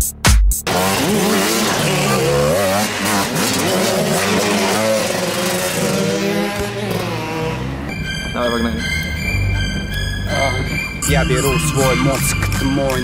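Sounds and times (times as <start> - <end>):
motorcycle engine revving: 0.6 - 13.0.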